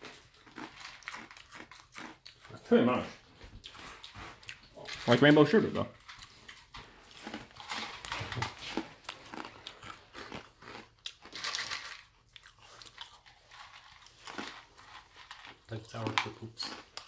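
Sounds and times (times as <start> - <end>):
person crunching cereal: 0.0 - 17.0.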